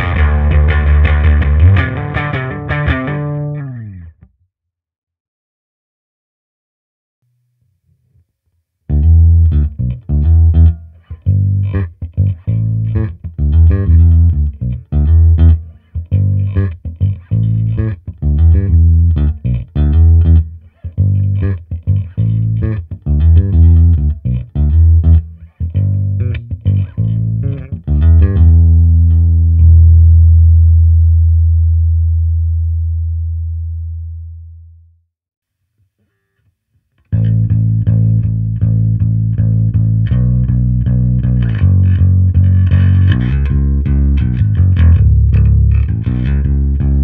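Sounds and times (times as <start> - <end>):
electric bass riff: 0.0 - 4.3, 8.9 - 34.9, 37.0 - 47.0.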